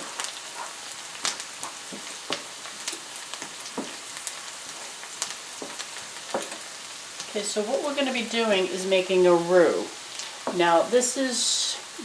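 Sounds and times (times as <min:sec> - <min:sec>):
onion sizzling in a frying pan: 0:00.0 - 0:12.0
sharp ticks of frying: 0:00.0 - 0:12.0.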